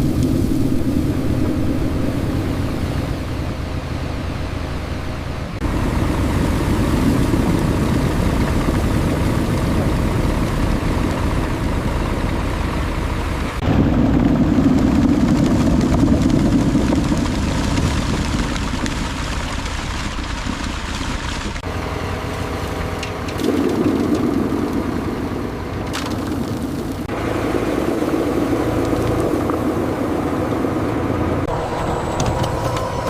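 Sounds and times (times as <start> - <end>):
factory machinery rumbling: 0.0 - 33.0.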